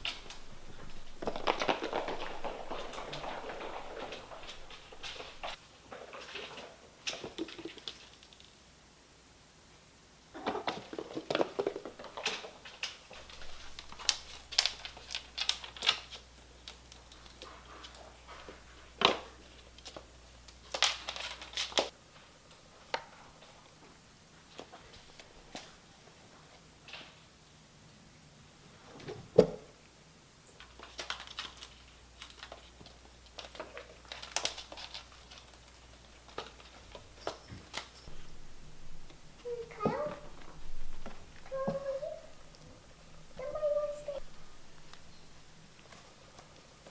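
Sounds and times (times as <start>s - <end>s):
kittens' paws pattering: 0.0s - 8.5s, 10.4s - 26.7s, 30.5s - 46.9s
light crinkling: 0.0s - 8.7s, 10.4s - 27.3s, 30.4s - 46.9s.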